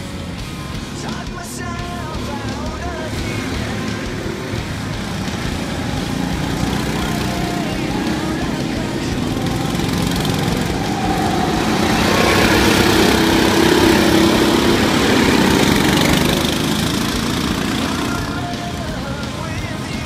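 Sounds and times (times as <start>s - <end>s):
go-kart engines: 0.0s - 20.0s.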